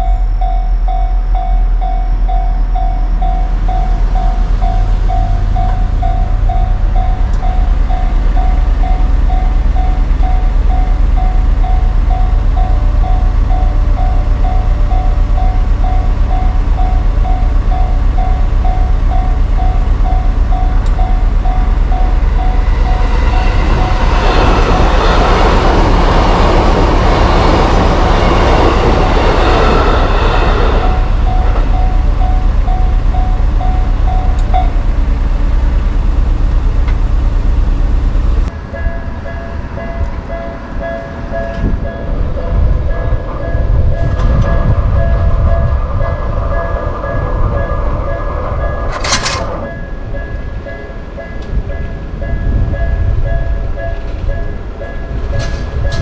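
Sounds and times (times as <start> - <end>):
railroad crossing bell ringing: 0.0 - 56.0
train wheels on rails: 0.0 - 56.0.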